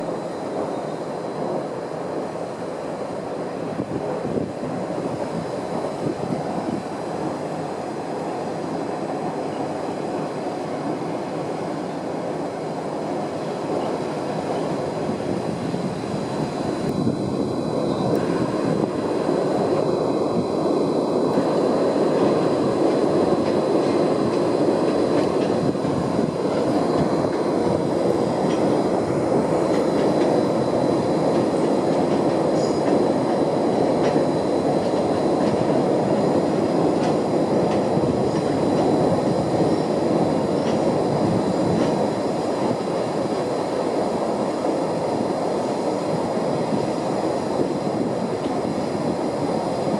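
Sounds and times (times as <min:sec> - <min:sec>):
freight train wheels rumbling on rails: 0:00.0 - 0:49.9.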